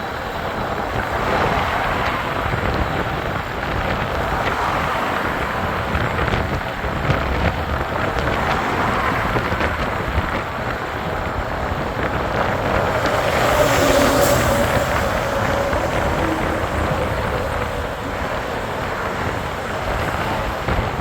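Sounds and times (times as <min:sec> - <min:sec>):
wind and road rushing: 0:00.0 - 0:21.0.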